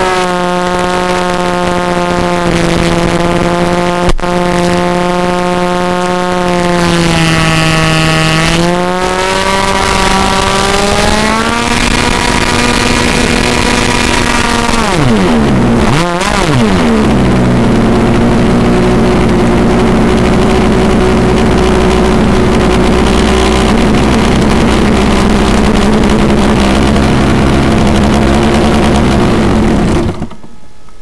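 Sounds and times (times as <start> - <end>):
model plane engine idling: 0.0 - 30.6.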